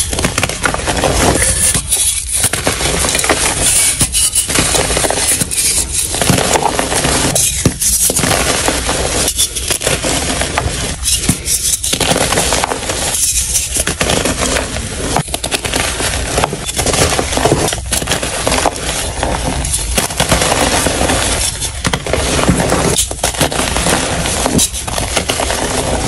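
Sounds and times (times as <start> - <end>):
chalk crunching and crumbling: 0.0 - 26.0.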